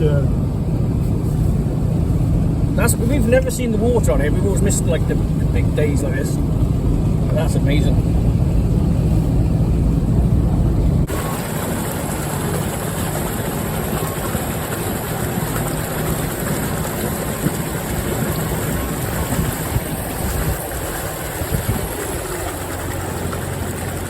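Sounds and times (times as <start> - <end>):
rushing floodwater: 0.0 - 8.2, 10.9 - 24.0
vehicle engine low rumble: 0.0 - 24.0.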